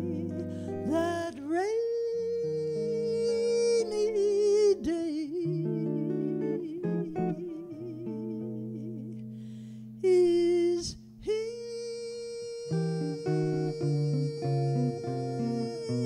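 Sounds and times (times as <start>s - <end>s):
woman singing with vibrato: 0.0s - 9.3s, 10.0s - 16.0s
guitar chords: 0.0s - 16.0s.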